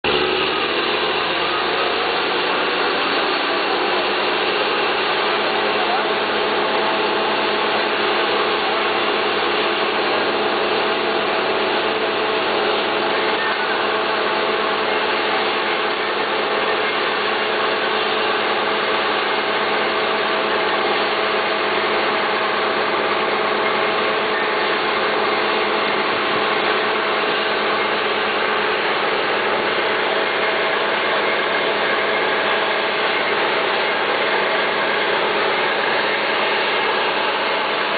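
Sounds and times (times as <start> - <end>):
drilling rig din: 0.0 - 37.9
steady machine hum: 0.0 - 37.9.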